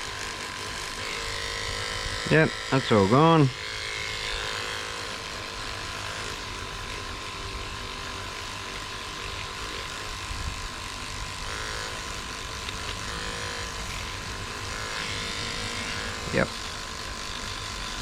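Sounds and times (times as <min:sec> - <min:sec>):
electric toothbrush whine: 0:00.0 - 0:18.0.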